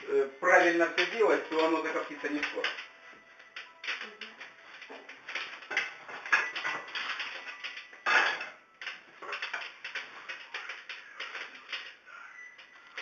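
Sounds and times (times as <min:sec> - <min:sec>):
rustling clatter: 0:01.0 - 0:13.0.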